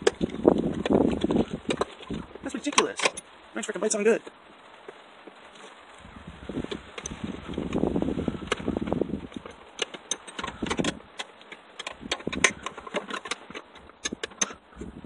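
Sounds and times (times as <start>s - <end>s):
shuffling and rustling: 0.0s - 15.0s.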